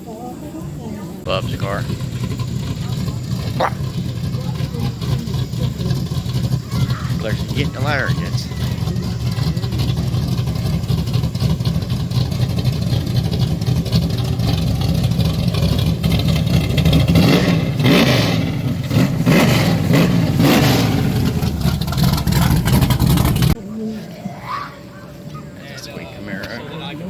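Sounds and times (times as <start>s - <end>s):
car engine running: 1.1s - 23.7s, 25.6s - 27.0s.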